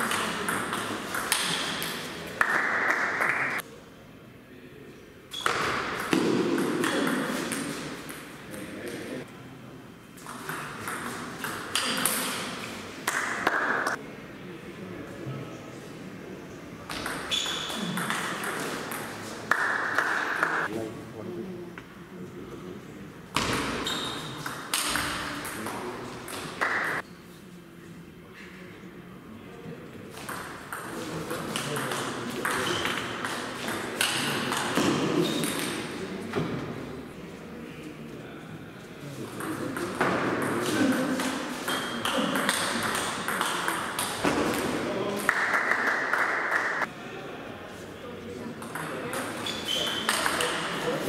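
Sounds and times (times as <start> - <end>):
loud noise in hall: 0.0 - 51.0.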